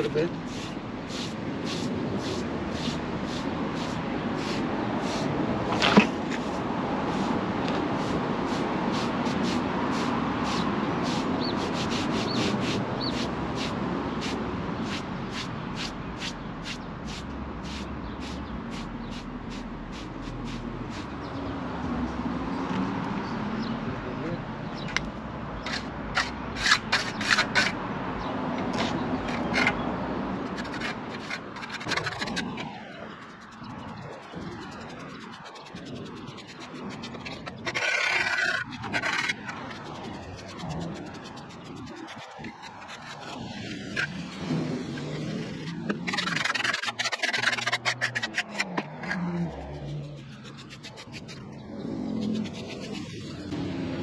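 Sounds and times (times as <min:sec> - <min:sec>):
sponge scratching on concrete: 0:00.0 - 0:21.2, 0:24.7 - 0:27.8, 0:28.6 - 0:53.6.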